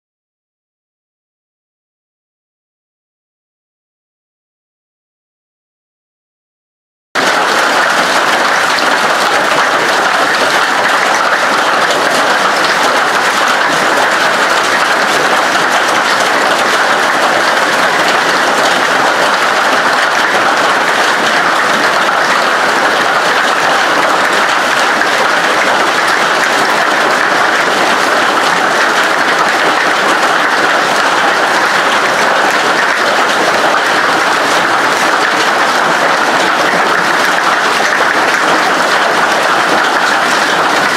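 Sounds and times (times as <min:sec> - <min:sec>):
hail and heavy rain clattering: 0:07.2 - 0:40.9.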